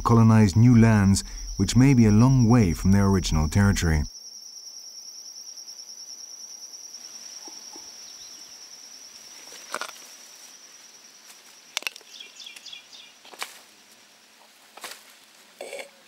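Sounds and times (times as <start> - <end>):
high insect trill: 0.0 - 14.4.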